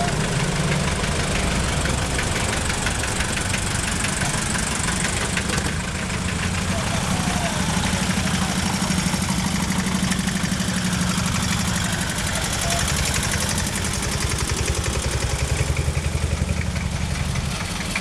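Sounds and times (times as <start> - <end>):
tractor engines running slowly: 0.0 - 18.0.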